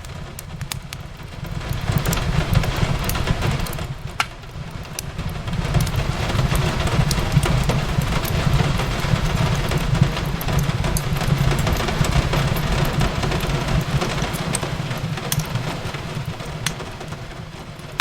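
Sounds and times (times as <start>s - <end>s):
rain hiss: 0.0s - 18.0s
wood fire crackling: 0.0s - 18.0s.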